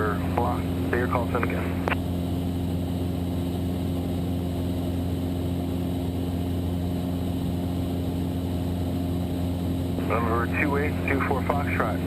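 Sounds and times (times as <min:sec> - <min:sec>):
airplane engine droning: 0:00.0 - 0:12.0.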